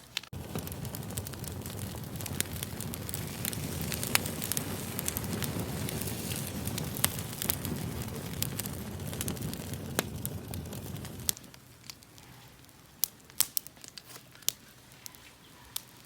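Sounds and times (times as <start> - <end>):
campfire crackling and popping: 0.0 - 15.2.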